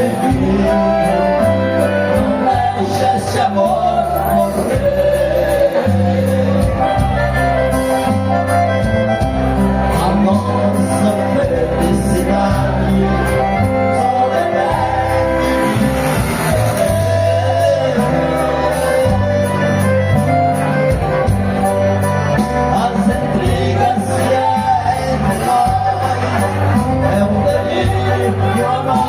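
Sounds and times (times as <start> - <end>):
person singing: 0.0 - 8.2, 9.8 - 20.2, 22.4 - 29.0
accordion: 0.0 - 29.0
bass notes: 0.0 - 29.0
steady drum beat: 0.0 - 29.0.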